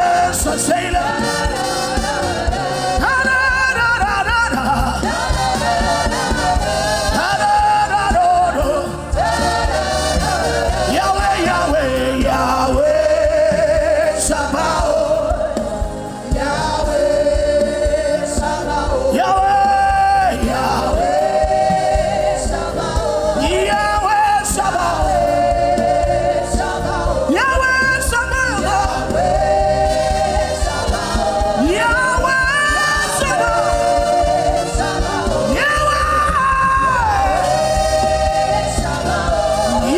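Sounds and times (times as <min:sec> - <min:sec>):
melodic gospel singing: 0:00.0 - 0:39.9.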